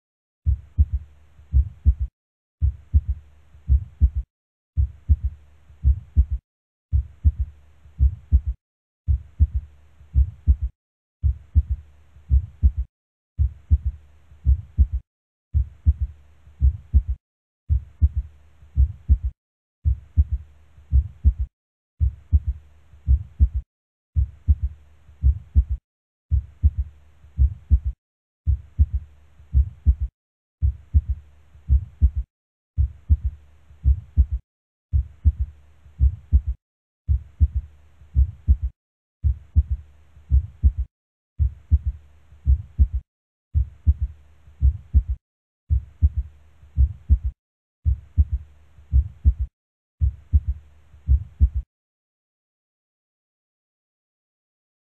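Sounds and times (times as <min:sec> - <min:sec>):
heartbeat with gallop rhythm: 0:00.5 - 0:15.0, 0:15.6 - 0:51.7.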